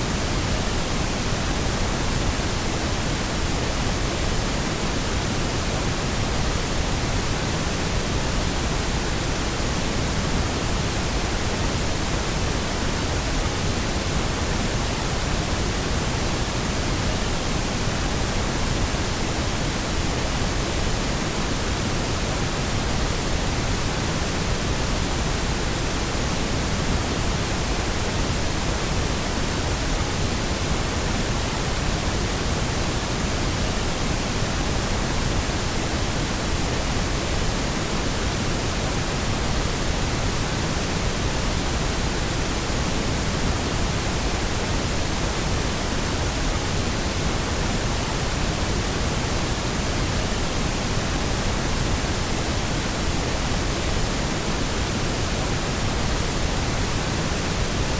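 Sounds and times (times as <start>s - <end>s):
steady pink noise hiss: 0.0s - 57.9s.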